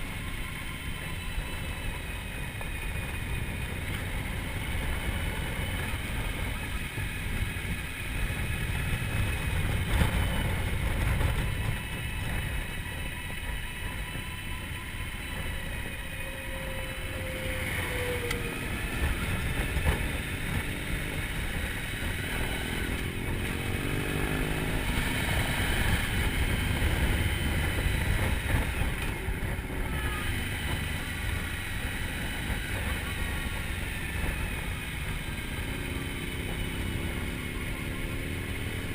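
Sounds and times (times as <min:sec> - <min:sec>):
low wind rumble: 0:00.0 - 0:38.9
motorcycle engine drone: 0:00.0 - 0:38.9.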